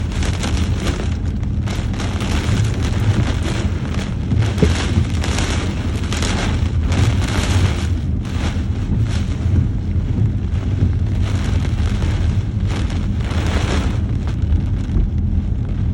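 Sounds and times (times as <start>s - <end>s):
heavy rain pouring: 0.0s - 15.9s
low thunder rumble: 0.0s - 15.9s.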